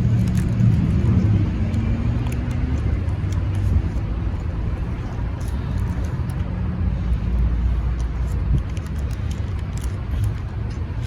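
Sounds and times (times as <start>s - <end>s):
car engine rumbling: 0.0s - 11.0s
fries being chewed: 0.0s - 11.0s.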